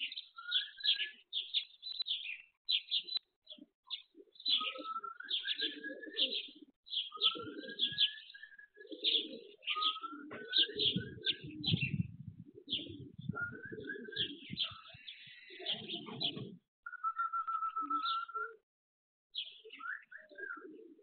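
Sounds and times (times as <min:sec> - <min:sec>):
pigeons cooing: 0:00.0 - 0:18.6, 0:19.4 - 0:21.0
small birds chirping: 0:00.0 - 0:18.6, 0:19.4 - 0:21.0.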